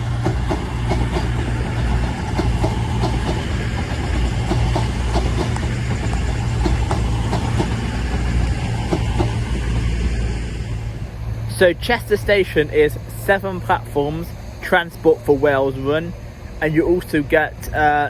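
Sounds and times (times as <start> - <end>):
train diesel engines humming: 0.0 - 18.0
wheels clicking over rail joints: 0.0 - 18.0.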